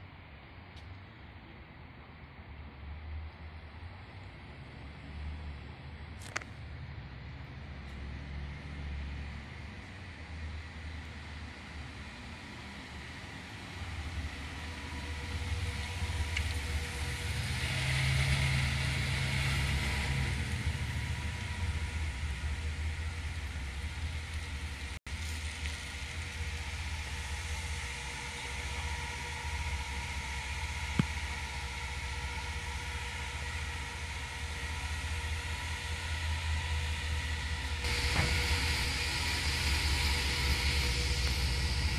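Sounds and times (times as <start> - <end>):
ambulance engine and tyres passing: 0.0 - 41.9
low engine hum: 0.0 - 41.9.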